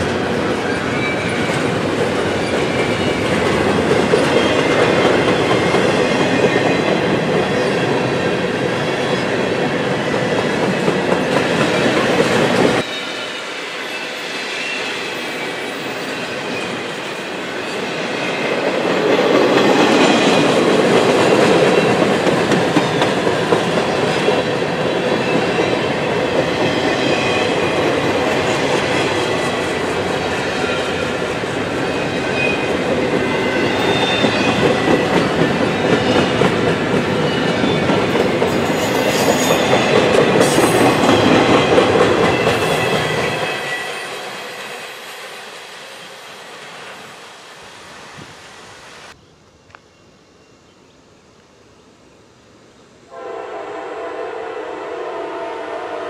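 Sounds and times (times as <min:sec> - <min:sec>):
train wheels rumbling on rails: 0:00.0 - 0:48.6.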